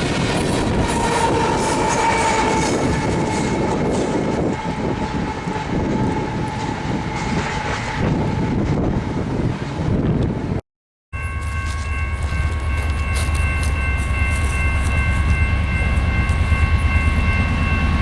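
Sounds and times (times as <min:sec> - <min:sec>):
freight train rumbling on rails: 0:00.0 - 0:10.6, 0:11.2 - 0:18.0.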